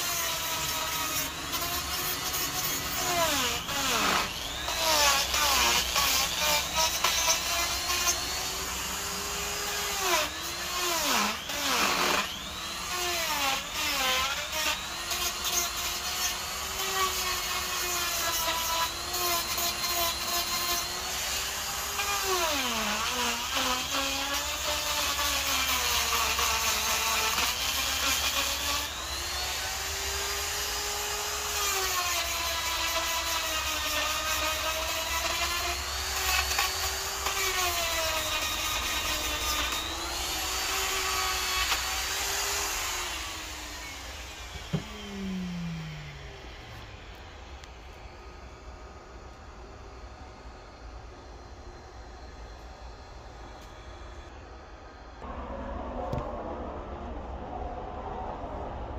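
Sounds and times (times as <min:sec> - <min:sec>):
die grinder cutting wood: 0:00.0 - 0:49.5.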